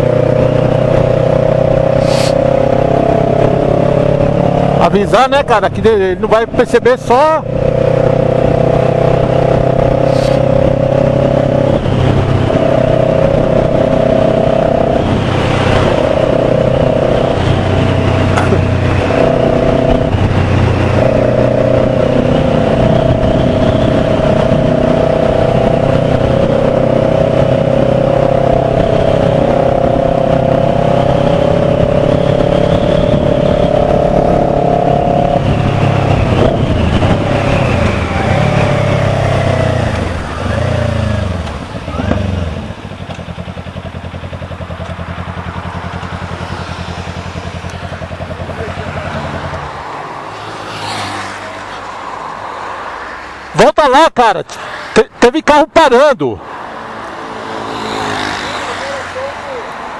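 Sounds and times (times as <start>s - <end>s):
motorcycle engine running: 0.0s - 49.7s.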